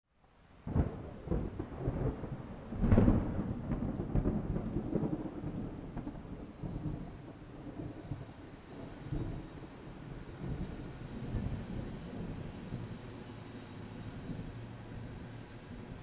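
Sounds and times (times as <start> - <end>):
thunder rumbling: 0.6 - 16.0.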